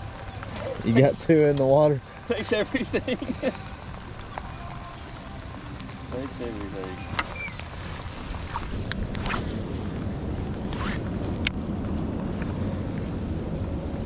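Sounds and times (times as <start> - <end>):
steady rain: 0.0 - 14.0
wind noise: 2.0 - 14.0.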